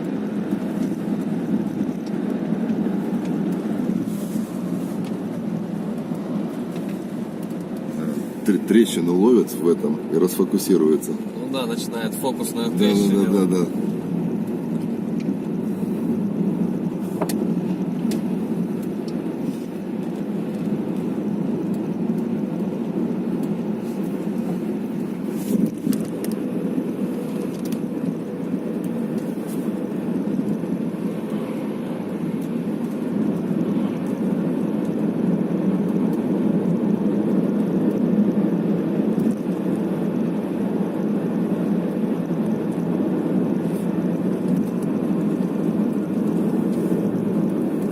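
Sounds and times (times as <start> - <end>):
car cabin road and engine noise: 0.0 - 47.9.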